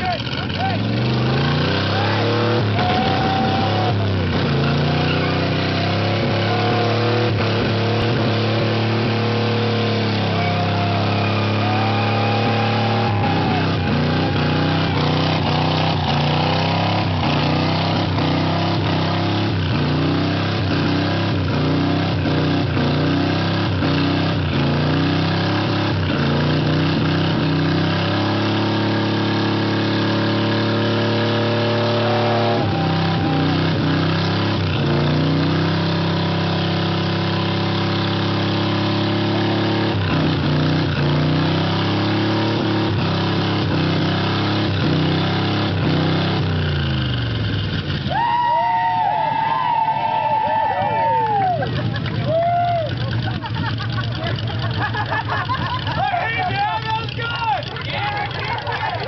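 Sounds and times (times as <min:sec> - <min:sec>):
car engine revving high: 0:00.0 - 0:59.0.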